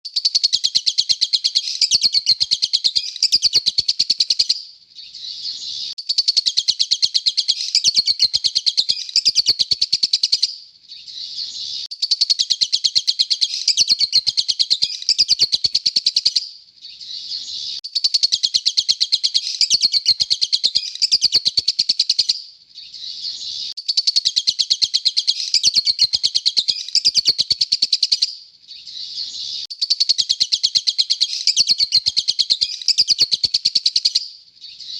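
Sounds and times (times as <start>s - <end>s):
lovebird chirping: 0.1s - 34.9s.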